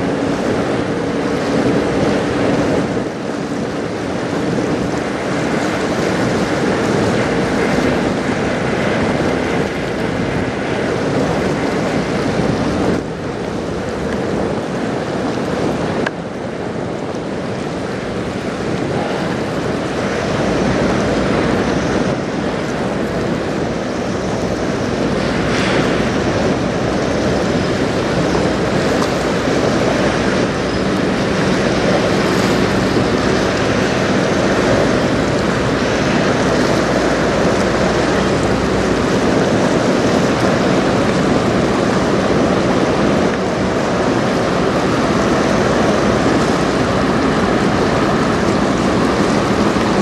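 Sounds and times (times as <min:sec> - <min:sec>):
low ship hum: 0:00.0 - 0:50.0
water rushing: 0:00.0 - 0:50.0
wind on microphone: 0:00.0 - 0:50.0.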